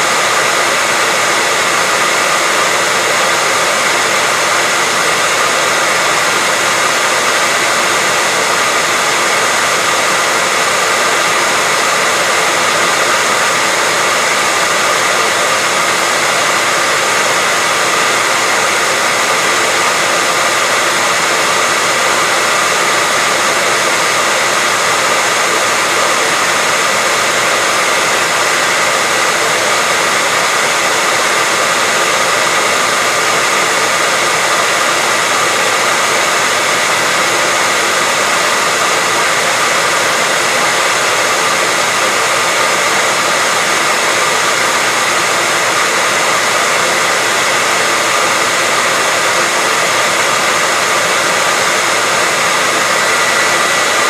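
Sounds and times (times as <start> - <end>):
hairdryer running: 0.0 - 54.0.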